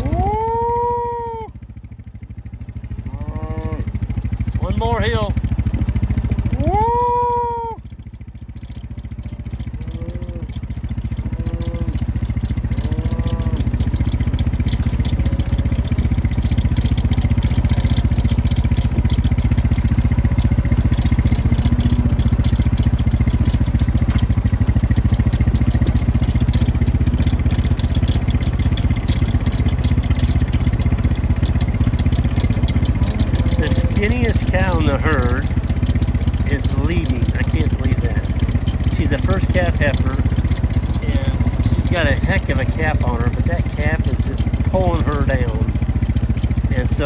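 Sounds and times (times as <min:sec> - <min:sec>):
vehicle engine running: 0:00.0 - 0:47.0
rattling clatter: 0:01.6 - 0:47.0.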